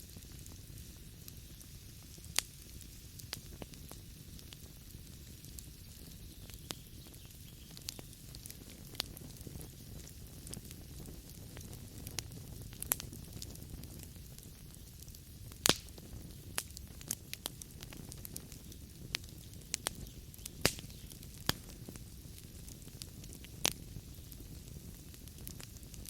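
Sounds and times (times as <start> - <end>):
burning logs crackling and popping: 0.0 - 26.0
fire rumbling: 0.0 - 26.0.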